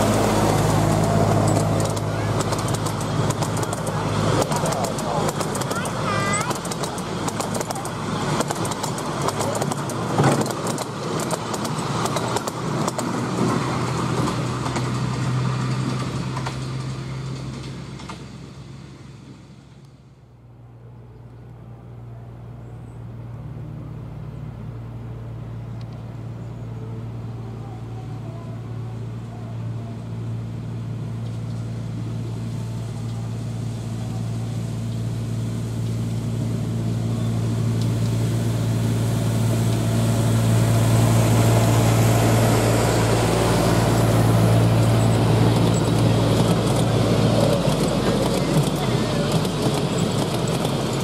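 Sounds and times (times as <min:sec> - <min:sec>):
wheels on rails: 0:00.0 - 0:20.2, 0:25.2 - 0:51.0
locomotive engine drone: 0:00.0 - 0:51.0.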